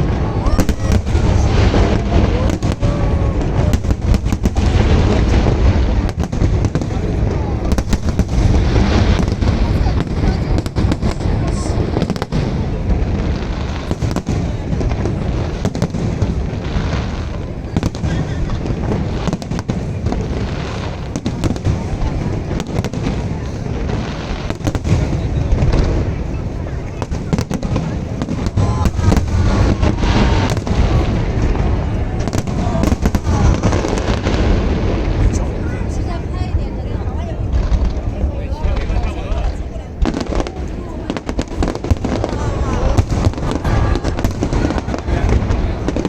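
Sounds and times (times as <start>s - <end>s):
sharp firework cracks: 0.0s - 36.0s, 39.5s - 46.0s
fireworks booming: 0.0s - 46.0s.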